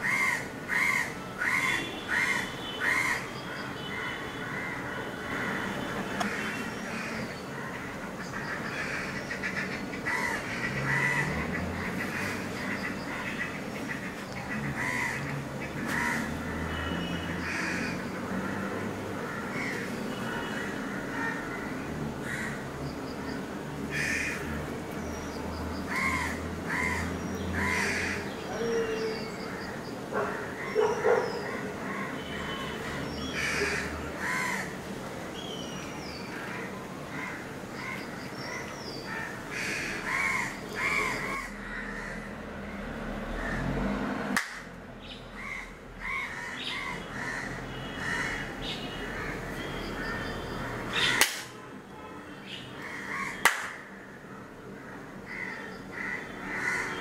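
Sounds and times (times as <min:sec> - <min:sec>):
birds calling and chirping: 0:00.0 - 0:43.8, 0:44.9 - 0:51.4.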